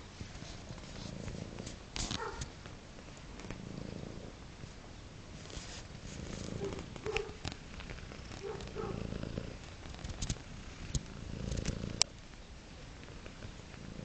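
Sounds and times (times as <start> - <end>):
cat purring: 0.0 - 14.0
soft clicks and rustles: 0.0 - 14.0.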